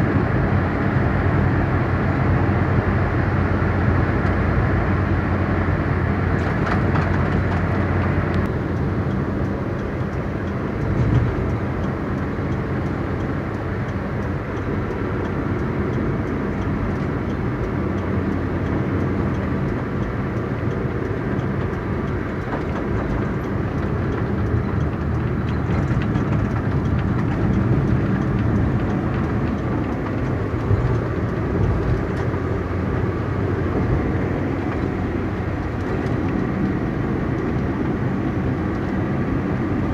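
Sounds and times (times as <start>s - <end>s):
car engine hum: 0.0s - 39.9s
tyres rushing on road: 0.0s - 39.9s.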